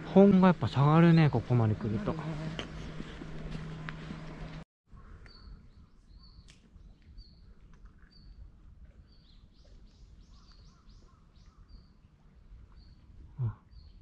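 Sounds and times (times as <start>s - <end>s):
faint low outdoor rumble: 0.0s - 13.3s.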